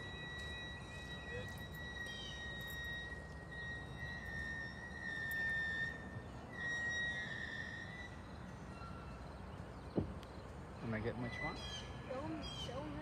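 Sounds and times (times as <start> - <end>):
train wheels squealing on rails: 0.0 - 9.9, 10.6 - 13.0
low rumble of rolling freight cars: 0.0 - 13.0.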